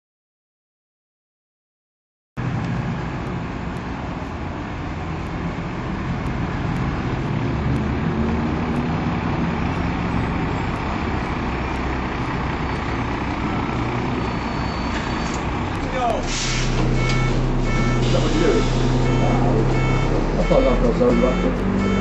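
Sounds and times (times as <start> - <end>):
bus diesel engine idling: 2.5 - 22.0.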